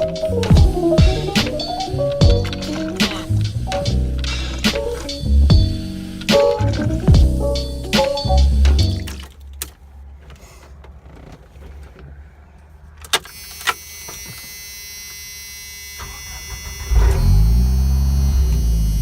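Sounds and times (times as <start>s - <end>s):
vehicle engine starting: 0.0s - 13.8s, 16.0s - 19.0s.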